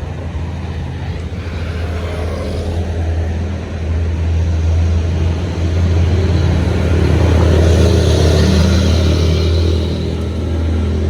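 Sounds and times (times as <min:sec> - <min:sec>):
heavy vehicle engine rumbling: 0:00.0 - 0:11.0.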